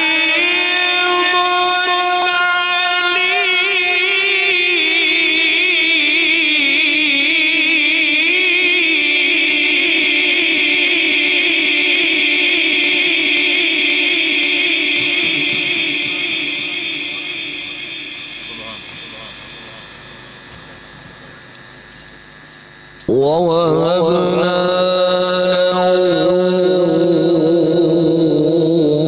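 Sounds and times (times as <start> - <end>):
man reciting in melodic chant: 0.0 - 20.1, 23.1 - 29.0.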